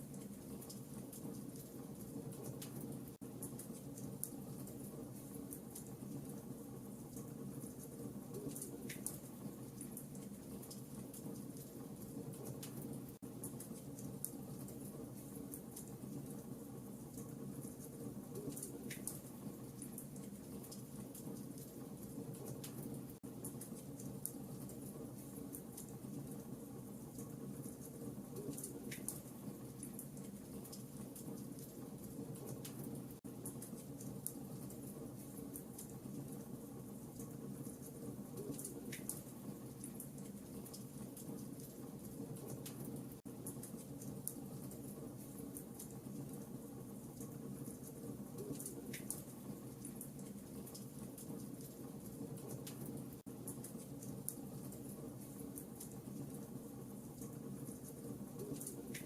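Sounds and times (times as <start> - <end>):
fire crackling in a fireplace: 0.0 - 59.0.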